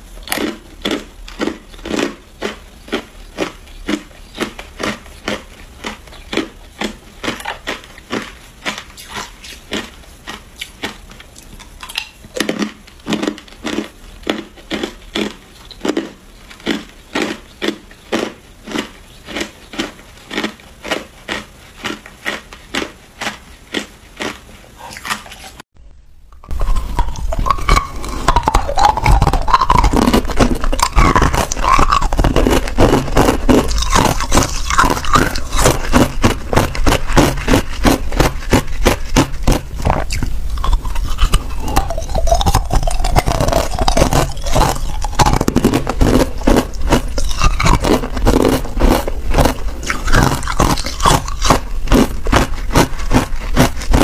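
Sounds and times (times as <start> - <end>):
ice being chewed: 0.0 - 25.6, 26.3 - 54.0.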